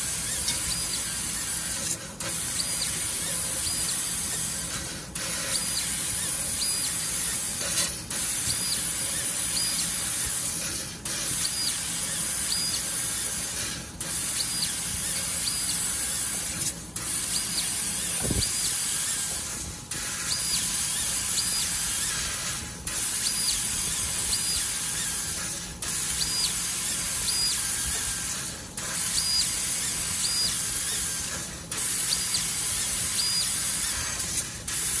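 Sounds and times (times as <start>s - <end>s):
laser cutting head hissing: 0.0s - 35.0s.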